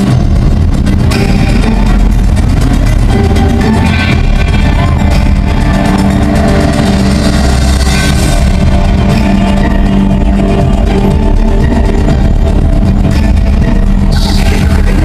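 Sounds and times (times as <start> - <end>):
amplified concert music: 0.0 - 15.0.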